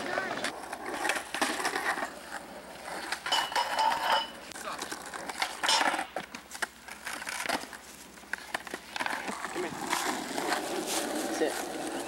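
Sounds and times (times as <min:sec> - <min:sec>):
skateboard rolling on asphalt: 0:00.0 - 0:12.0.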